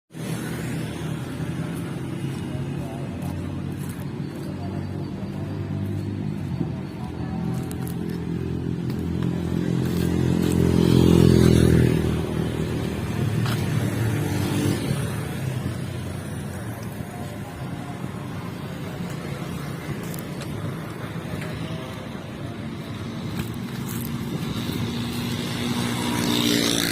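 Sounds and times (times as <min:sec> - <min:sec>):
traffic rumble: 0:00.1 - 0:26.9.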